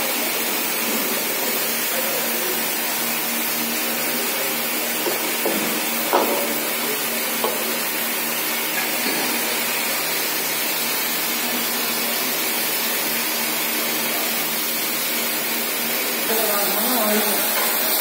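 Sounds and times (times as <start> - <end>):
machine motor hissing and humming: 0.0 - 18.0.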